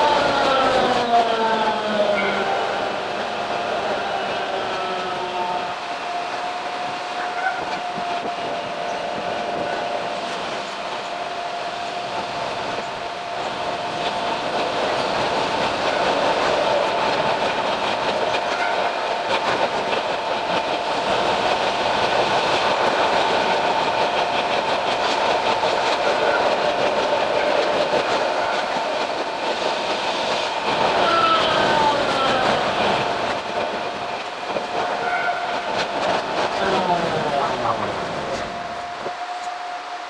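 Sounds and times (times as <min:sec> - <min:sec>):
electric train running: 0:00.0 - 0:40.0.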